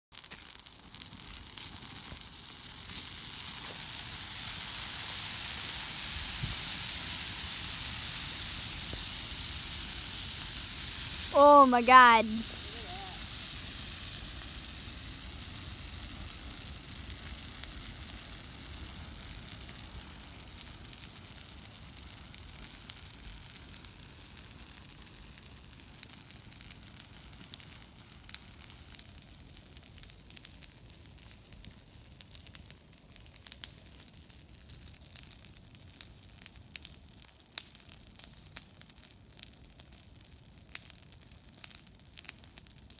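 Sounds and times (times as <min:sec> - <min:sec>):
fire crackling and popping: 0:00.1 - 0:42.9
bonfire flames hissing: 0:00.2 - 0:42.9.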